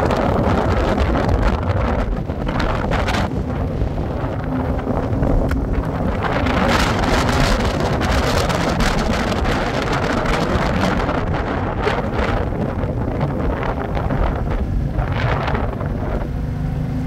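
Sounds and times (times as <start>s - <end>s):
vehicle low rumble: 0.0s - 17.0s
wind buffeting microphone: 0.0s - 17.0s.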